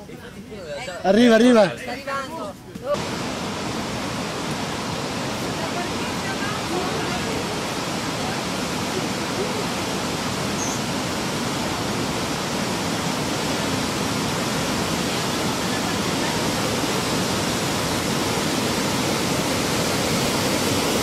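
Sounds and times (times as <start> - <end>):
roar of foaming surf: 3.0 - 21.0.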